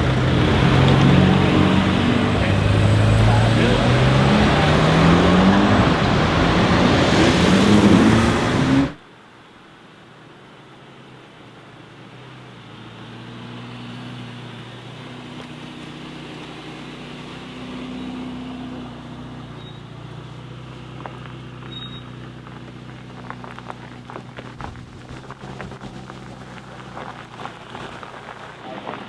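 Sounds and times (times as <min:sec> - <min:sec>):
car engine running low: 0:00.0 - 0:09.0, 0:10.2 - 0:29.0.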